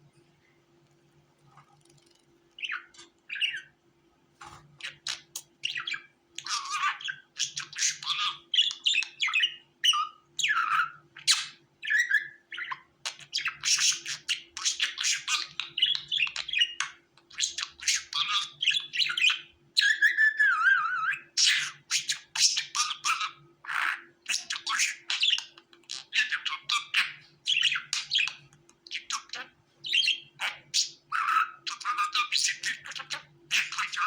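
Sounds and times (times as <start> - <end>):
budgerigars chirping and warbling: 2.6 - 3.7, 4.4 - 34.0.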